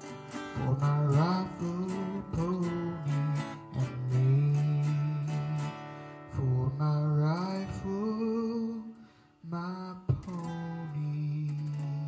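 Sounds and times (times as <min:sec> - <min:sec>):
man singing: 0:00.0 - 0:12.0
strummed acoustic guitar: 0:00.0 - 0:12.0.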